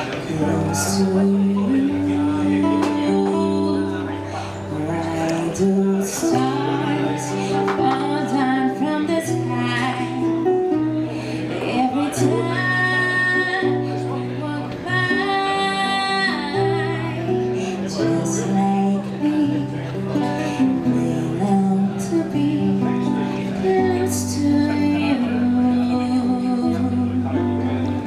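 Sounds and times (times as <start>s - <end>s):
acoustic guitars playing: 0.0s - 28.0s
woman singing into a microphone: 0.0s - 28.0s.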